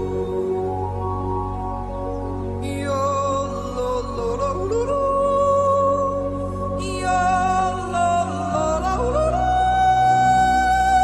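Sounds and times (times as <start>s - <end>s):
slow background music: 0.0s - 11.0s.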